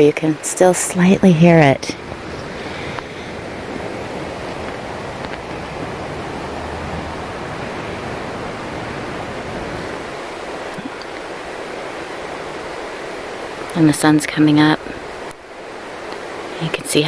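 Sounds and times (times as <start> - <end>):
distant stream rushing: 0.0 - 17.0.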